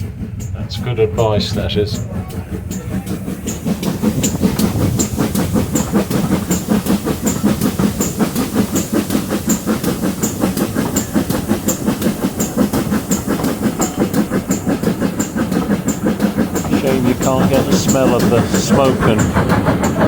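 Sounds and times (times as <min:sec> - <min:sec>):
steam locomotive exhaust beating: 0:00.0 - 0:20.0.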